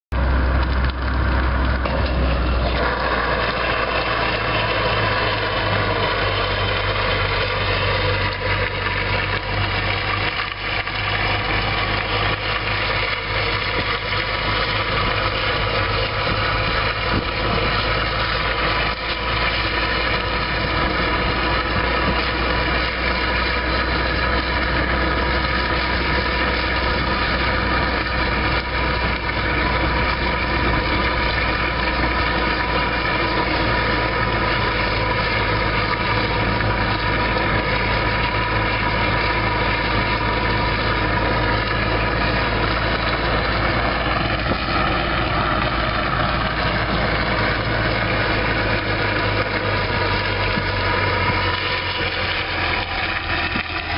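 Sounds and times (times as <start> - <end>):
car engine running at low revs: 0.0 - 53.9.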